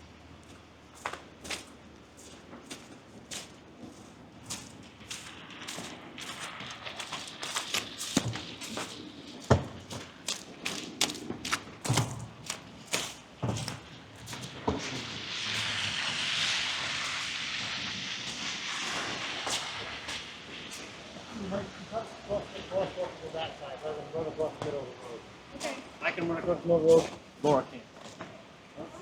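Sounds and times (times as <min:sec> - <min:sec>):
steady rushing hiss: 0:00.0 - 0:29.0
footsteps crunching in snow: 0:00.3 - 0:28.4.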